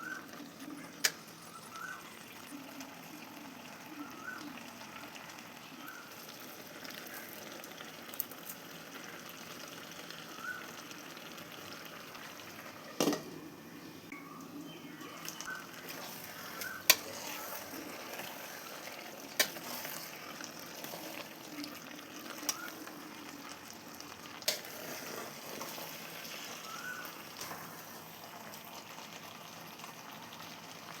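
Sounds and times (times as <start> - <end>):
vegetables sizzling and bubbling: 0.0 - 31.0.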